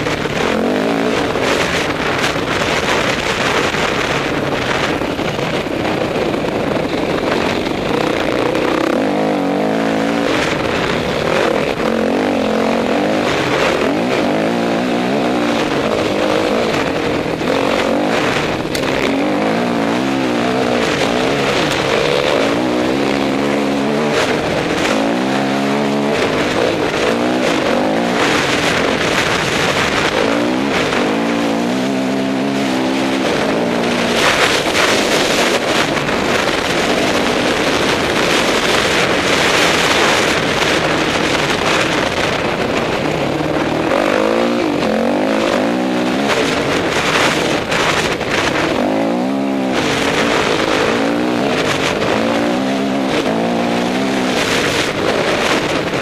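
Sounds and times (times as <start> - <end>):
dirt bike engine revving: 0.0 - 56.0
wind noise: 0.0 - 56.0.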